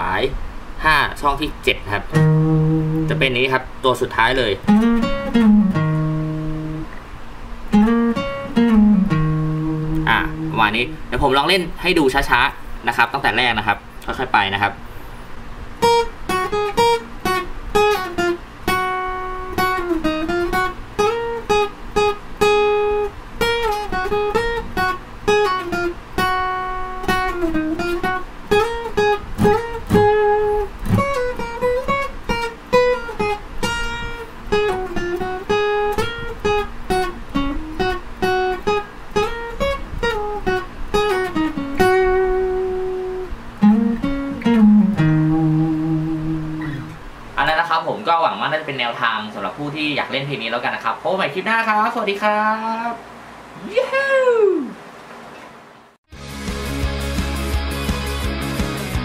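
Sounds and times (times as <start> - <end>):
acoustic guitar lead solo: 0.0 - 14.8, 15.6 - 49.0, 56.1 - 59.0.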